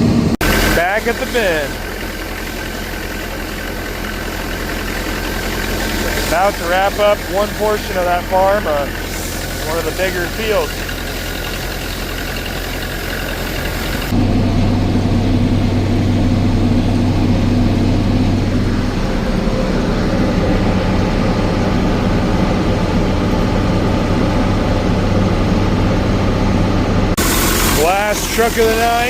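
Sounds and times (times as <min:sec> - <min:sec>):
heavy vehicle engine drone: 0:00.0 - 0:29.0.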